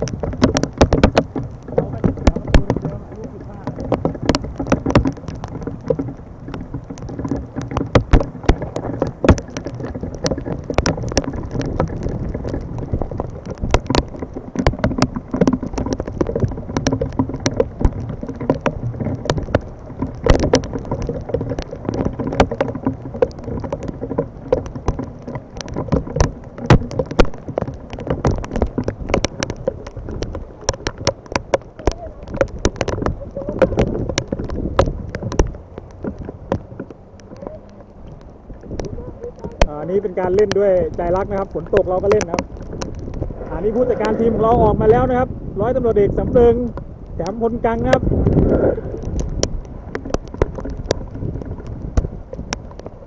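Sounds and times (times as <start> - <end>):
heavy rain falling: 0.0 - 53.0
raindrops ticking close by: 0.0 - 53.0.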